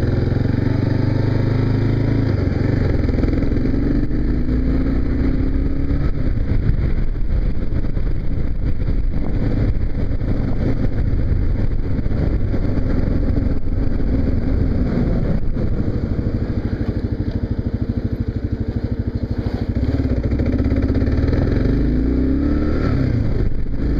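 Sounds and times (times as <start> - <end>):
motorcycle engine: 0.0 - 23.9.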